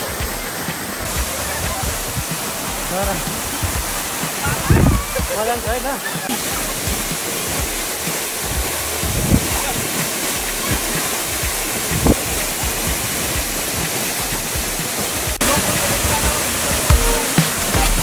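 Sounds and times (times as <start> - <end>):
low thumps: 0.0 - 18.0
waterfall rushing: 0.0 - 18.0.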